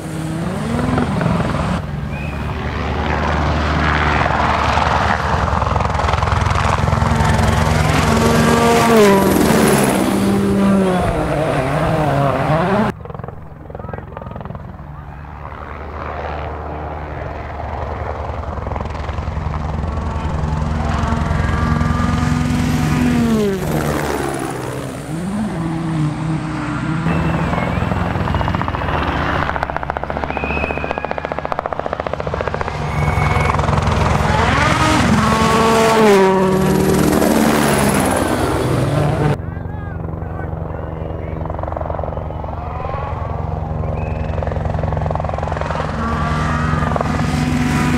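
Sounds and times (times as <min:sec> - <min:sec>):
rally car engine revving: 0:00.0 - 0:13.0, 0:18.9 - 0:39.4, 0:42.8 - 0:47.9.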